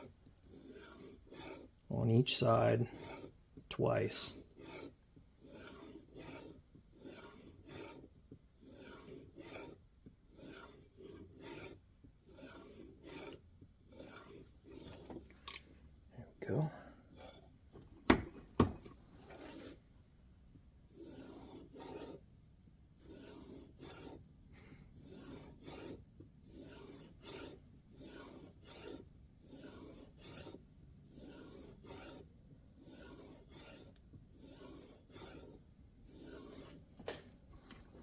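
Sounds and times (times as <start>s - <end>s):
blade stroking along a strop: 0.0s - 15.6s, 16.5s - 17.7s, 19.2s - 19.8s, 20.9s - 22.3s, 23.0s - 24.3s, 24.9s - 37.0s.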